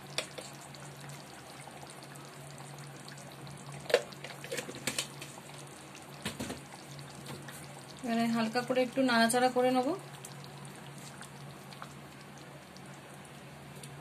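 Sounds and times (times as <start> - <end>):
curry bubbling: 0.0 - 14.0.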